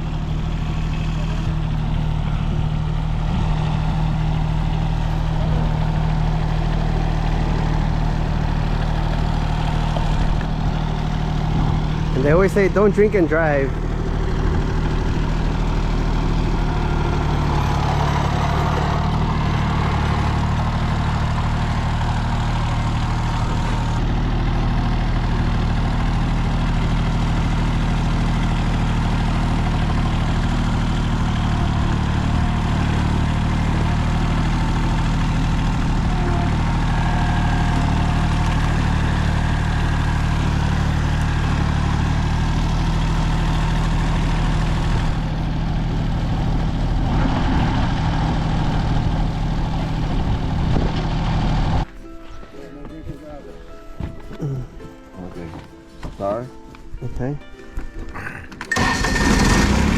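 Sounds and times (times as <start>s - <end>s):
tractor engine idling: 0.0s - 53.1s, 58.6s - 59.9s.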